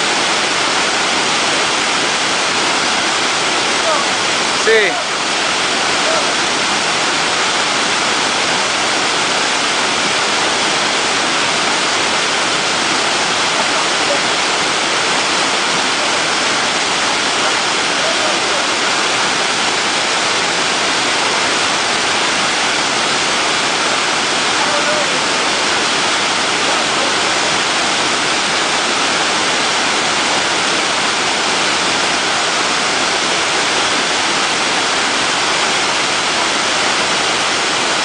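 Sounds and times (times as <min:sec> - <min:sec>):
waterfall pouring: 0:00.0 - 0:38.0.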